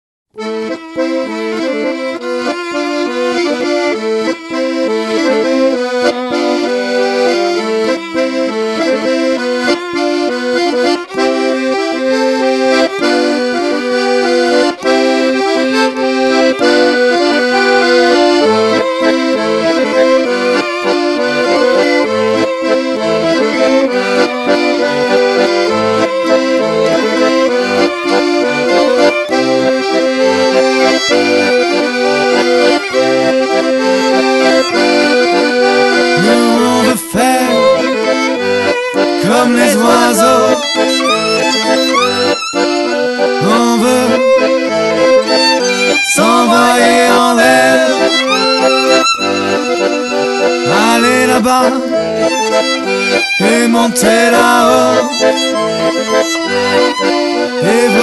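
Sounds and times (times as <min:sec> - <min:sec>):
accordion music: 0:00.3 - 0:58.0.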